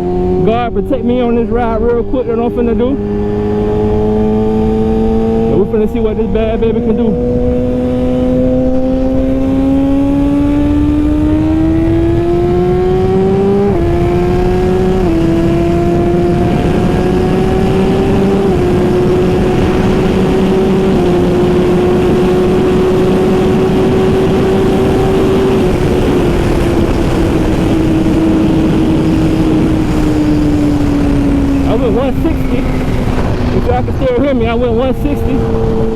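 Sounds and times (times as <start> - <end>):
motorcycle engine at full throttle: 0.0 - 35.9
wind rush on microphone: 0.0 - 35.9.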